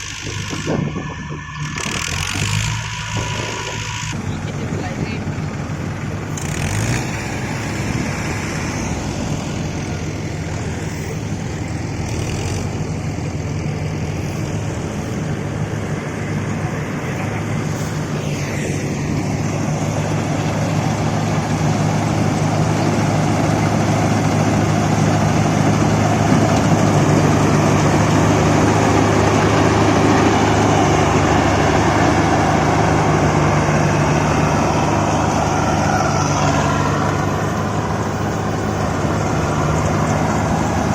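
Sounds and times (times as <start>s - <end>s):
diesel tractor engine: 0.0s - 40.9s
harvester machinery running: 0.0s - 40.9s.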